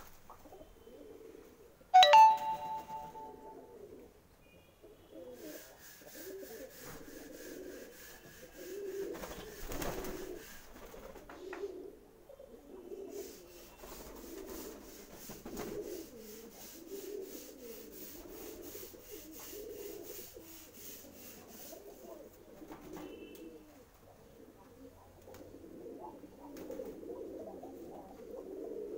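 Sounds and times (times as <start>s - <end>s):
pigeons cooing: 0.0s - 1.9s, 3.5s - 4.2s, 4.9s - 28.9s.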